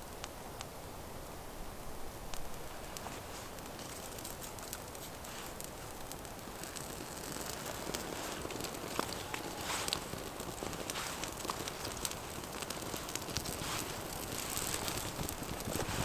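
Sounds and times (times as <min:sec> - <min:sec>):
campfire crackling: 0:00.0 - 0:16.0
fire snaps and pops: 0:02.3 - 0:16.0.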